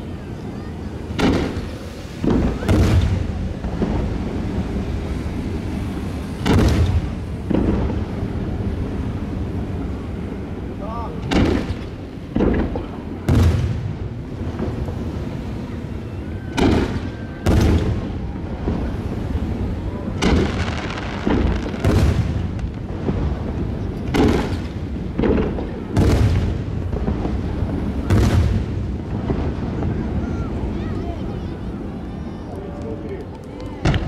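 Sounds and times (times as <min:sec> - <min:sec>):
fireworks bursting with echo: 0:00.0 - 0:34.0.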